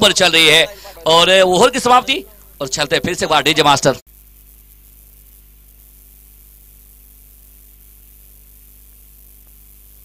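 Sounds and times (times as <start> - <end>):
electrical mains hum with hiss: 0.0 - 10.0.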